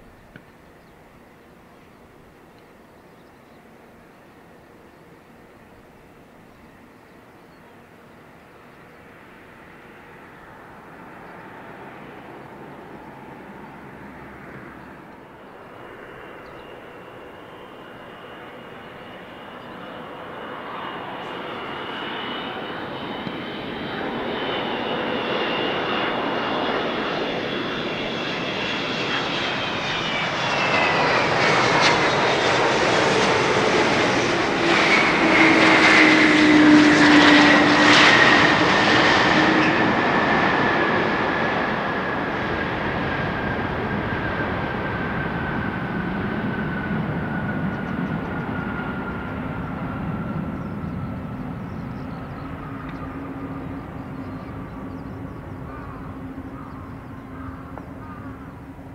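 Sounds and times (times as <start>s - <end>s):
jet engines whining: 7.7s - 58.9s.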